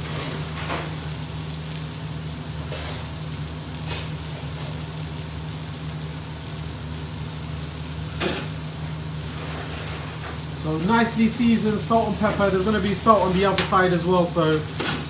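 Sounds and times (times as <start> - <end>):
burger patties sizzling: 0.0 - 15.0
steady low hum: 0.0 - 15.0.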